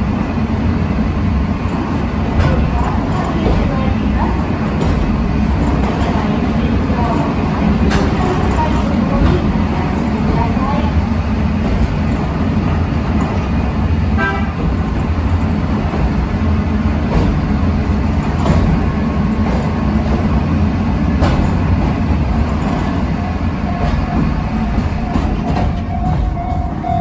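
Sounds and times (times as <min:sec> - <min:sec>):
trolley train rumbling: 0:00.0 - 0:27.0.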